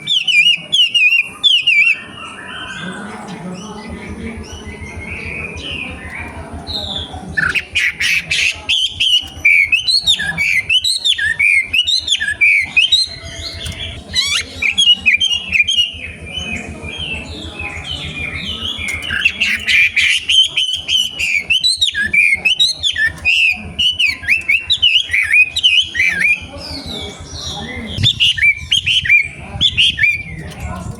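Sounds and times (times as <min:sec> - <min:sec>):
bird high chirps: 0:00.0 - 0:30.9
steady low hum: 0:02.5 - 0:30.9.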